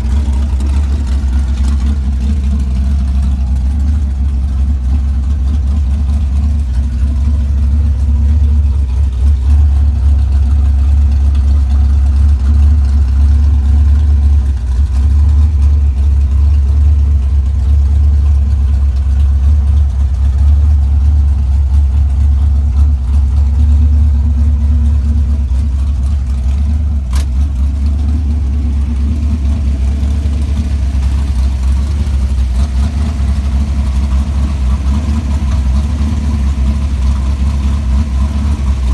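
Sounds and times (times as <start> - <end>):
car engine running loud: 0.0 - 38.9.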